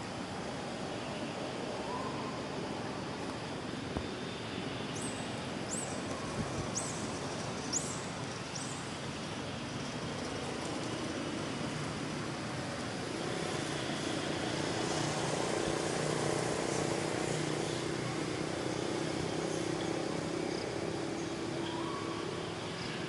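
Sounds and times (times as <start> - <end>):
outdoor noise: 0.0 - 23.0.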